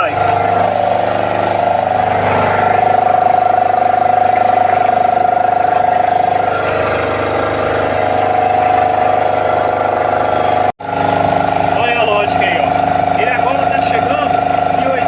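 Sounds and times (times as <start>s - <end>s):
air compressor droning: 0.0s - 15.0s.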